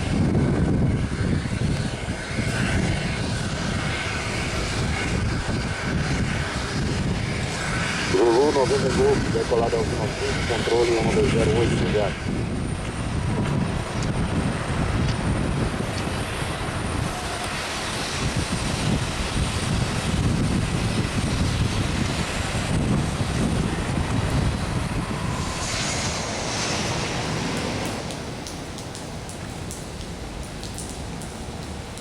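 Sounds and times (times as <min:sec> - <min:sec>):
airplane engines rumbling: 0:00.0 - 0:32.0.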